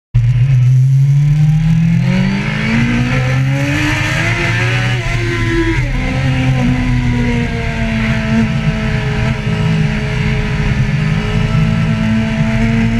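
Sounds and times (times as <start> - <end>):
engine accelerating and shifting gear: 0.2 - 12.9.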